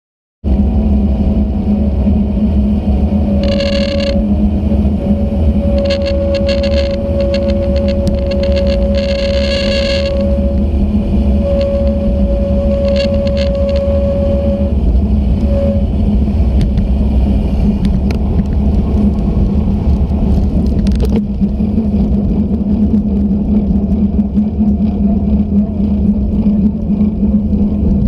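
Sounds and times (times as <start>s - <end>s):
wind and tyre rumble: 0.4s - 28.0s.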